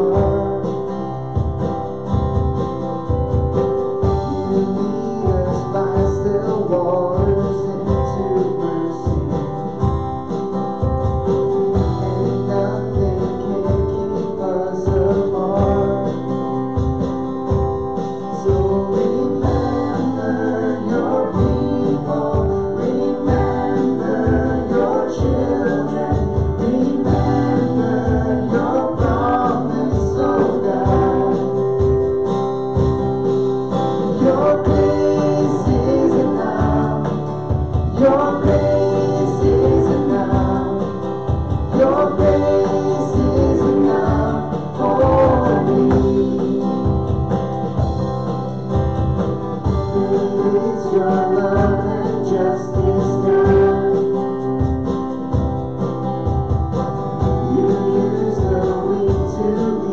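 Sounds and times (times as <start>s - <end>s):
voices singing: 0.0s - 2.1s, 3.7s - 16.9s, 17.6s - 48.5s, 49.6s - 55.1s, 57.2s - 59.9s
band with steady beat: 0.0s - 59.9s.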